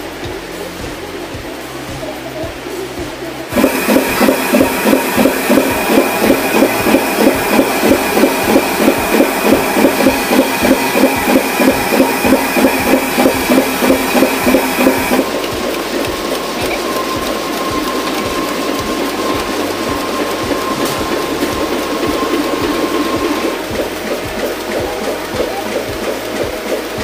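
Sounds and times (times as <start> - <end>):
low machine hum: 0.0 - 27.0
printing press rhythmic beat: 0.0 - 27.0
steady high machine whine: 0.0 - 27.0.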